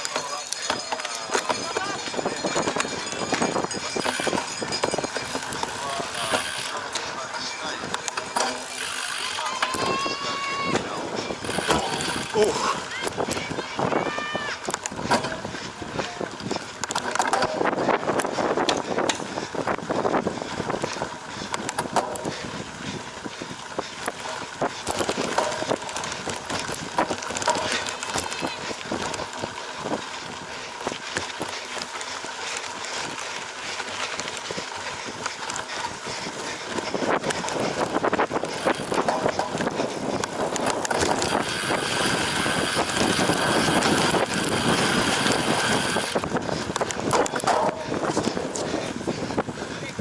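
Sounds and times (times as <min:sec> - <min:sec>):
bike rattling clicks: 0:00.0 - 0:50.0
bike tyres on rough ground: 0:00.0 - 0:50.0.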